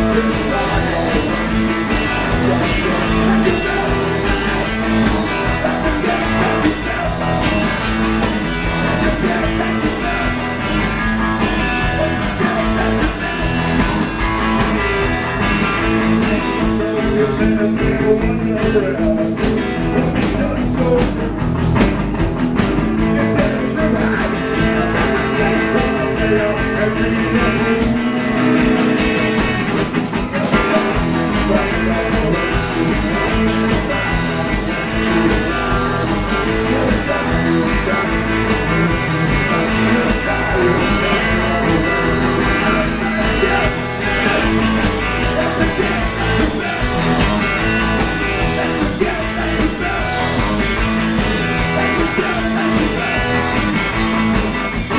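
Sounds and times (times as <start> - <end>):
person singing: 0.0 - 14.7, 15.6 - 21.2, 23.0 - 29.7, 30.3 - 54.9
drum kit: 0.0 - 54.9
electric guitars: 0.0 - 54.9.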